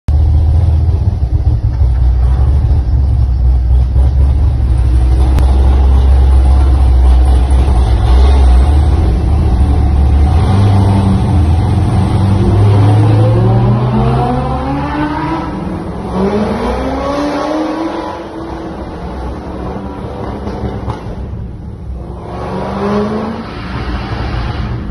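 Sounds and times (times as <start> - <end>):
sports car engines echoing in tunnel: 0.1 - 24.9.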